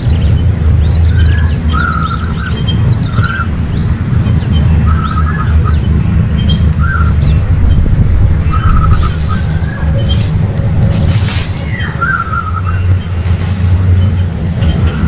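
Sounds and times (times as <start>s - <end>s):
bird chirping: 0.0s - 15.0s
low rumble: 0.0s - 15.0s.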